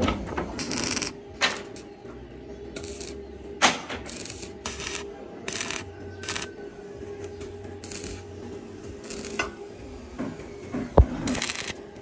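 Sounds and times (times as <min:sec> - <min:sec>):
arc welder crackling: 0:00.0 - 0:02.0, 0:02.7 - 0:10.1, 0:11.0 - 0:12.0.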